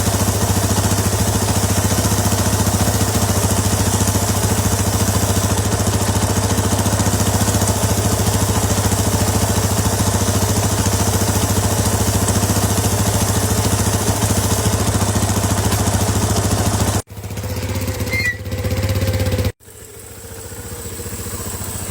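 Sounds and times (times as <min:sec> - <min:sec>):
atv engine idling: 0:00.0 - 0:21.9.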